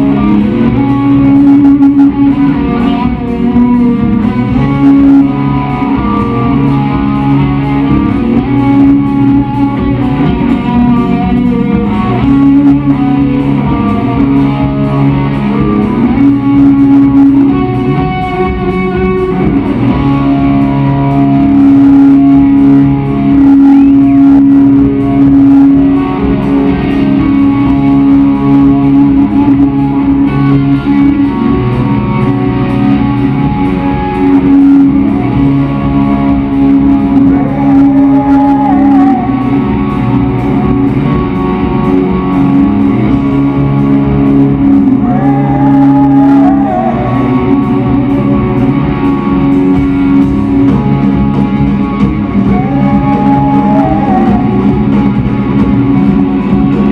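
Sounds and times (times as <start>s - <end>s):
electric guitar: 0.0s - 56.9s
rock band playing live: 0.0s - 56.9s.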